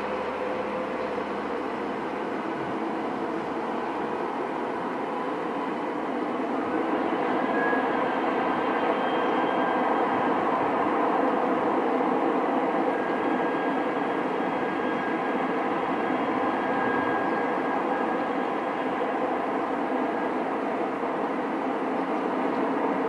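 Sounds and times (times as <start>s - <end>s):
faint high engine whine: 0.0s - 23.0s.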